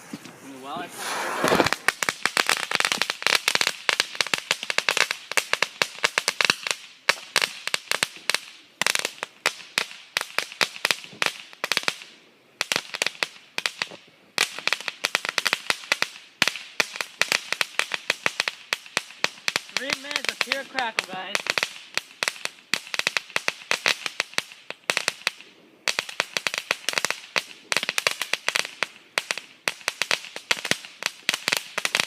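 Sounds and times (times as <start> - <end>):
firework crackling: 0.0 - 32.0.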